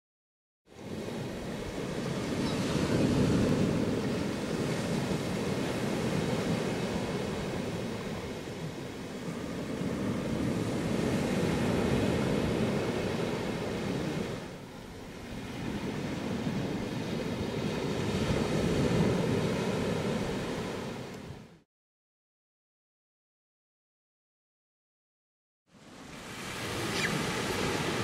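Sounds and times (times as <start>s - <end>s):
sea surf breaking on beach: 0.7s - 21.6s, 25.7s - 28.0s.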